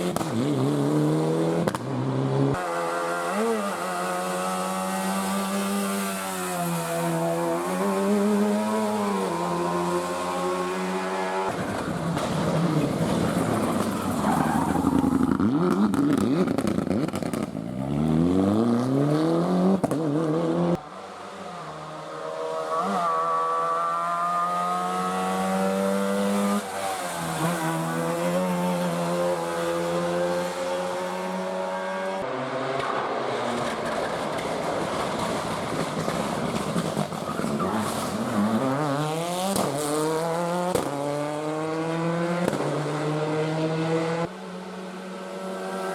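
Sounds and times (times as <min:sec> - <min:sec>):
rally cars revving past: 0:00.0 - 0:45.9.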